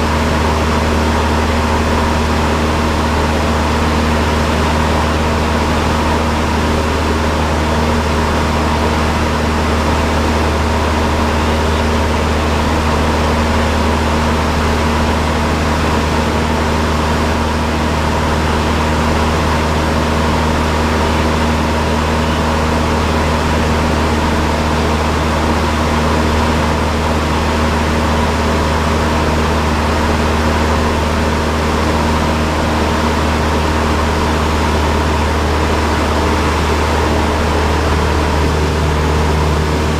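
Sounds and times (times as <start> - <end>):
airplane engine droning in cockpit: 0.0 - 39.9.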